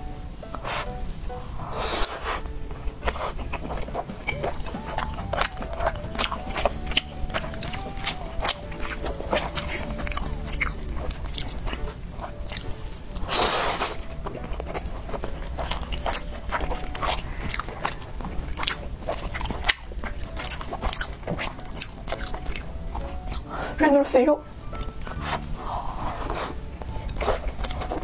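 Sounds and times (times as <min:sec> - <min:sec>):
wet chewing: 0:00.0 - 0:28.0.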